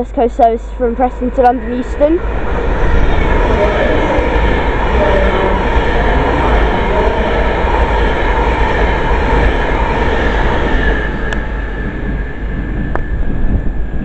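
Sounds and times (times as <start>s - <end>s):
electric train passing at speed: 0.0s - 14.0s.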